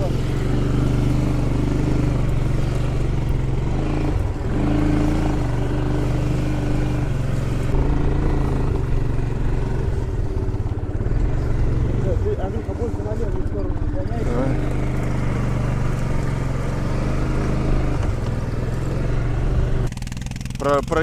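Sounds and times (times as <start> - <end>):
small off-road vehicle engine: 0.0 - 21.0.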